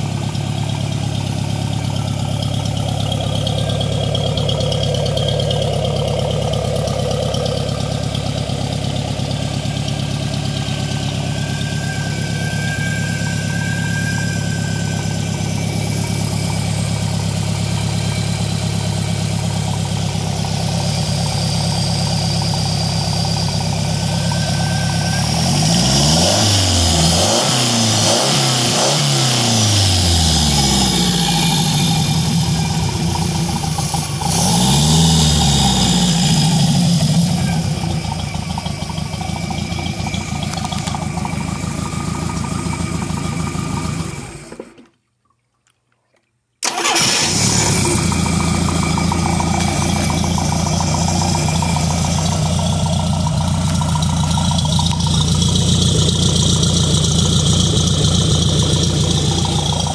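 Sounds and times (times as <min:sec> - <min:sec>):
boat engine idling: 0:00.0 - 0:27.1, 0:29.6 - 0:44.9, 0:46.6 - 0:59.9.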